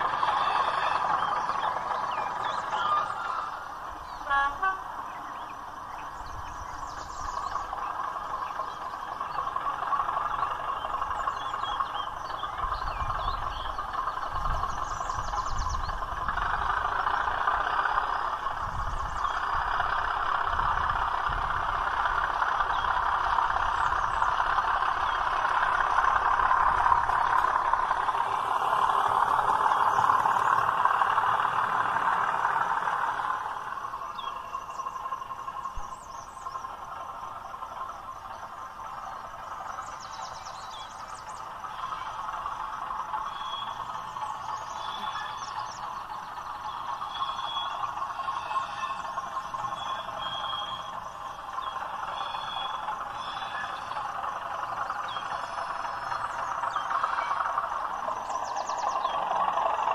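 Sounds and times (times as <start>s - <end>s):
diesel engine sound from small speaker: 0.0s - 59.9s.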